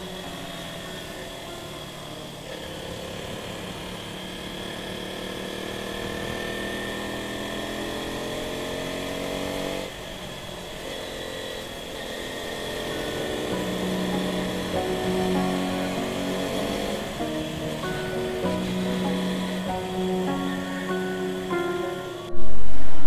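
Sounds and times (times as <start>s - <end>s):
motorcycle engine accelerating: 0.0s - 22.3s.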